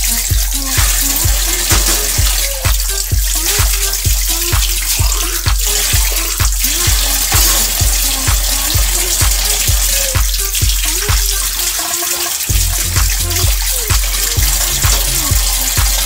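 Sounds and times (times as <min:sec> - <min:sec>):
background music with beat: 0:00.0 - 0:16.0
dishes being rinsed: 0:00.0 - 0:16.0
tap water running into sink: 0:00.0 - 0:16.0.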